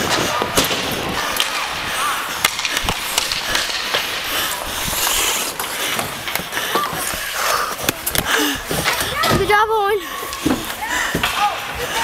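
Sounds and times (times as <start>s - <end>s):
hockey sticks and pucks clacking: 0.0s - 12.0s
skate blades scraping ice: 0.0s - 12.0s.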